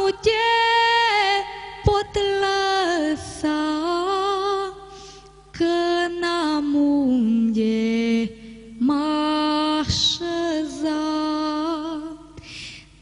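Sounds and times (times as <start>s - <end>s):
woman singing unaccompanied: 0.0s - 4.9s, 5.5s - 12.4s.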